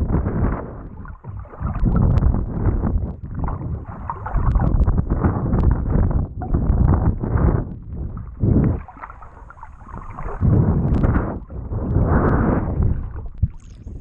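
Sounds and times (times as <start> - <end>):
rushing wind: 0.0 - 14.0
water rushing past a boat: 0.0 - 14.0.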